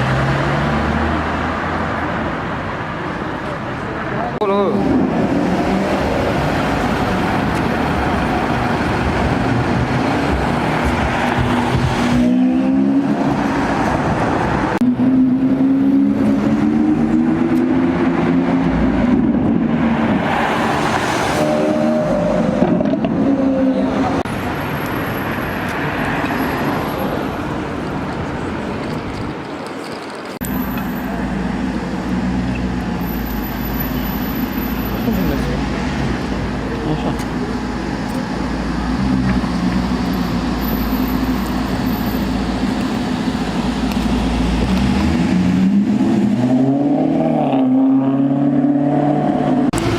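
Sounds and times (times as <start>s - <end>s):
street traffic: 0.0s - 49.9s.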